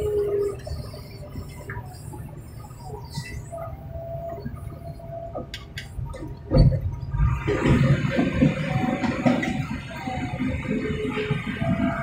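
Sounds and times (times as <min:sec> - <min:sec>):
heavy machinery engine rumble: 0:00.0 - 0:12.0.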